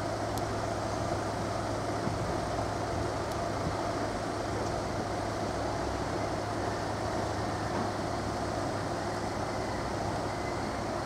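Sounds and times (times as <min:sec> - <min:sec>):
electric train running hum: 0:00.0 - 0:11.0.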